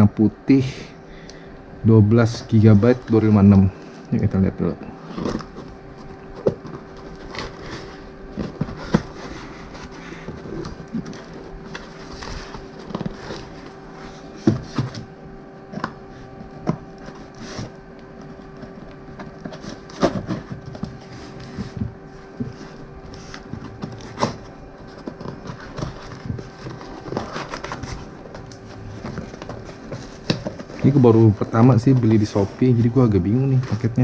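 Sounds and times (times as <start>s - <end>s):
faint hum: 0.0s - 34.0s
cardboard box being opened by hand: 5.0s - 34.0s.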